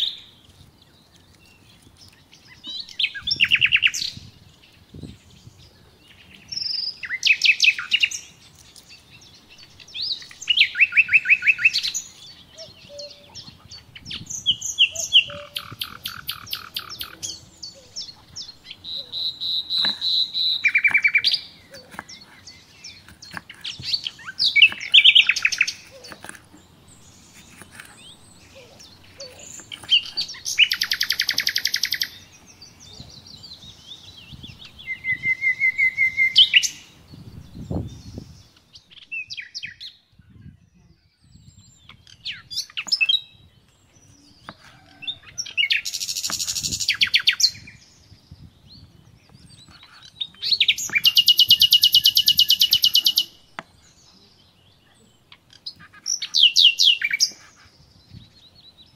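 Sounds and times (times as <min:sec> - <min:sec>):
songbird singing trills: 0:00.0 - 0:58.9.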